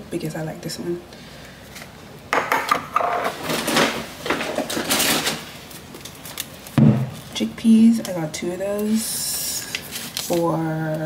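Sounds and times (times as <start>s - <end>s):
groceries rustling and clattering: 1.6s - 11.0s.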